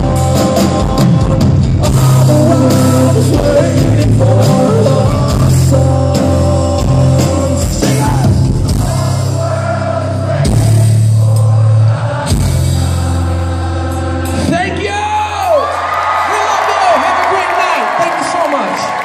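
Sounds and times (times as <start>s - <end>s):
guitars playing low chords: 0.0s - 15.4s
drum kit: 0.0s - 15.5s
lead singing: 0.0s - 15.9s.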